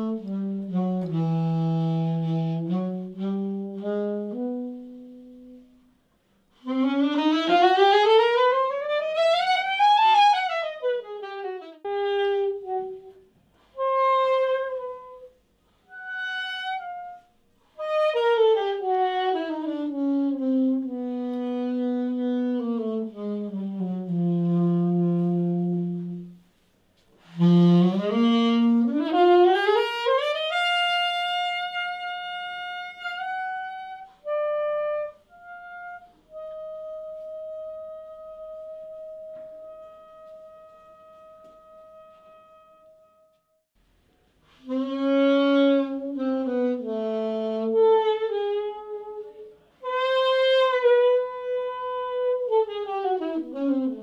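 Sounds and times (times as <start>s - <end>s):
saxophone improvising jazz: 0.0s - 43.6s, 44.4s - 54.0s.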